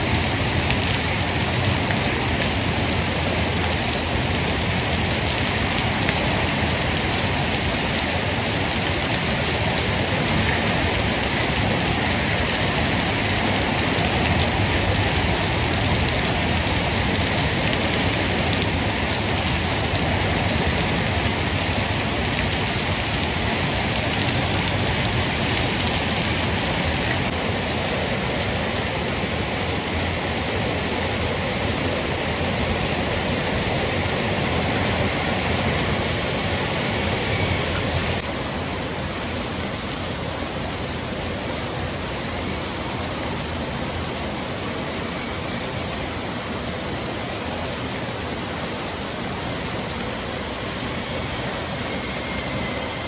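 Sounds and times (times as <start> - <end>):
heavy rain on paving: 0.0 - 53.0.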